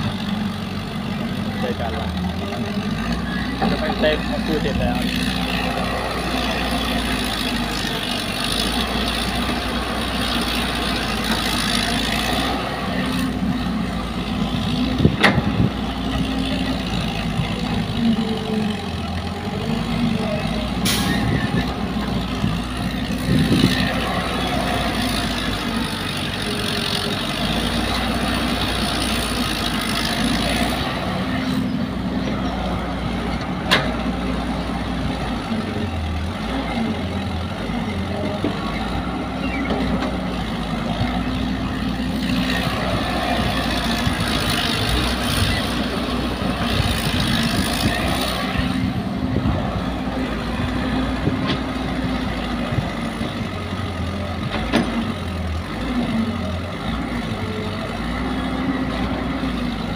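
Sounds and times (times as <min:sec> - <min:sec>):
excavator diesel engine running: 0:00.0 - 0:59.9
truck engine idling: 0:00.0 - 0:59.9.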